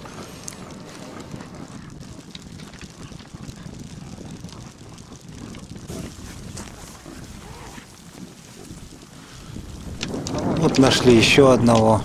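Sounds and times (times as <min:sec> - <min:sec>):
faint clicks: 0:00.0 - 0:12.0
wind buffeting microphone: 0:00.0 - 0:12.0.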